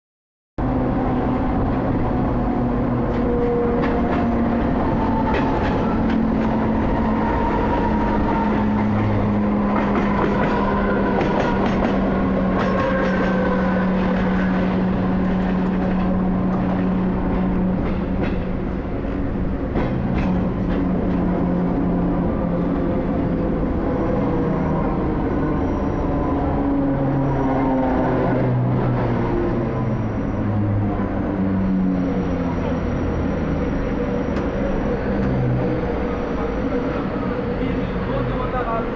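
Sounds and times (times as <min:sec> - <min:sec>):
electric train rumbling: 0:00.6 - 0:38.9.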